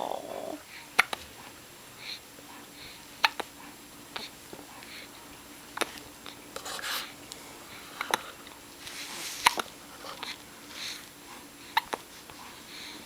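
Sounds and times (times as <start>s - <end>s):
soft breathing: 0.0s - 13.0s.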